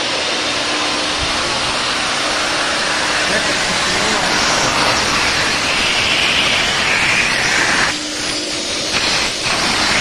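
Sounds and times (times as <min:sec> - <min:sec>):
vacuum suction rushing: 0:00.0 - 0:10.0.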